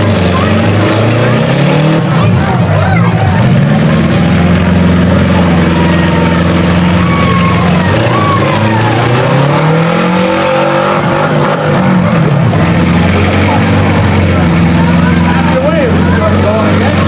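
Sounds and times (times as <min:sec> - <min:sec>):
car engine revving: 0:00.0 - 0:17.0
car engines running: 0:00.0 - 0:17.0.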